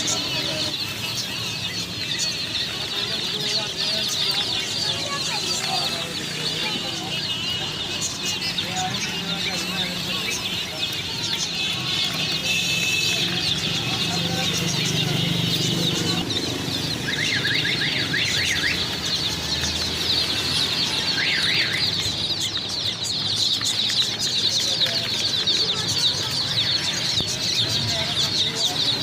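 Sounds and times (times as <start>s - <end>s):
baby chicks peeping: 0.0s - 29.0s.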